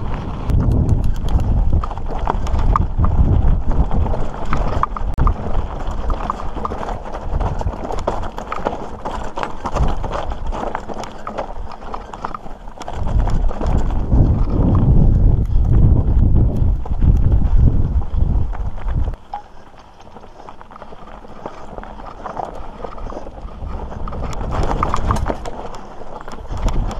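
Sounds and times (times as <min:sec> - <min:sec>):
wind rumble on microphone: 0:00.0 - 0:26.9
bike clattering over stones: 0:00.1 - 0:26.9.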